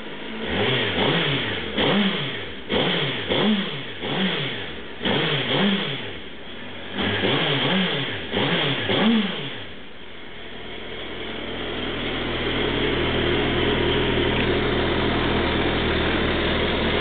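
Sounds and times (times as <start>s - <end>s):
motorcycle engine revving: 0.0s - 9.9s, 10.5s - 17.0s.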